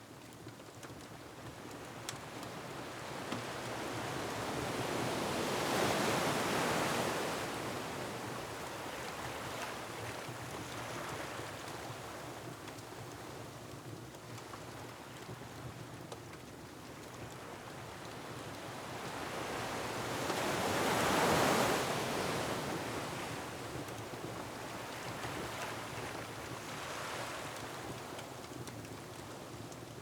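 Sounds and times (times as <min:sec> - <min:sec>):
faint wood fire crackling: 0:00.0 - 0:06.1, 0:07.6 - 0:21.6, 0:22.3 - 0:30.0.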